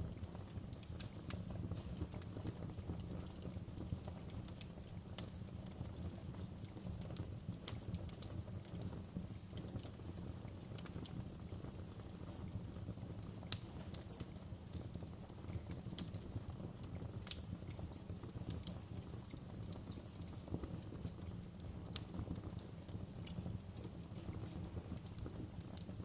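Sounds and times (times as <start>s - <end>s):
fire crackling in a fireplace: 0.0s - 26.0s
fire pops: 0.0s - 26.0s.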